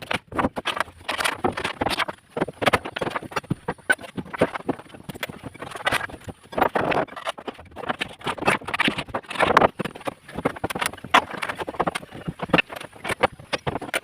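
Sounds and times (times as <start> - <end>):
timber boards knocking and clattering: 0.0 - 14.0.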